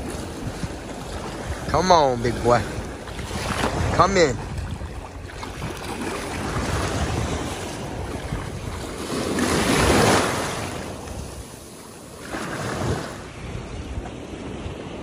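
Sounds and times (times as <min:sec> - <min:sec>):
shallow surf splashing: 0:00.0 - 0:15.0
wind rumbling on microphone: 0:00.0 - 0:15.0.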